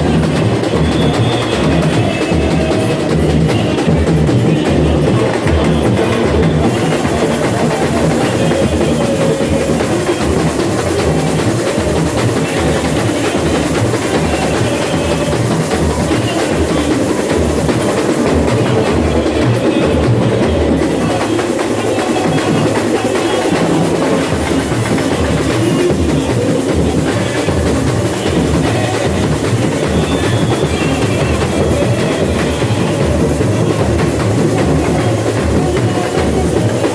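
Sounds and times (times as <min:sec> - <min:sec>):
samba drums and percussion: 0:00.0 - 0:36.9.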